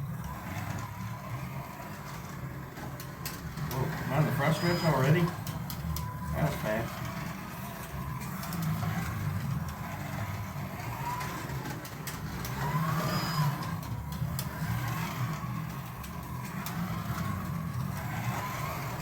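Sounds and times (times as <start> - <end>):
slot car motor whine: 0.0 - 19.0.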